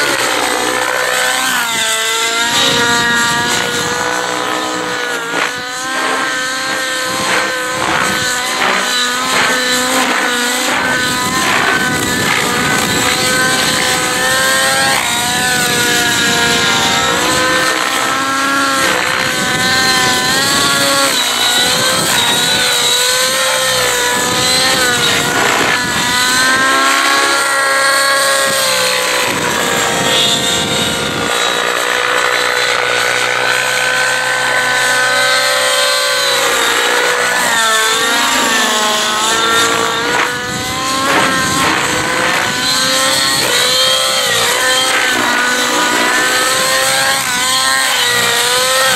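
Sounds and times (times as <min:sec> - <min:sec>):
model helicopter engine and rotor: 0:00.0 - 0:48.9.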